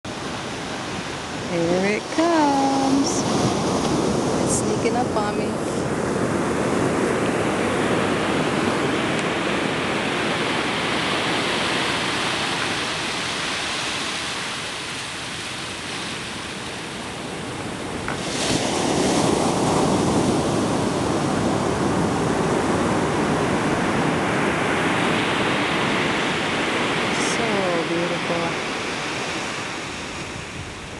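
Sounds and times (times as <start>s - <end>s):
ocean surf breaking on beach: 0.1s - 30.9s.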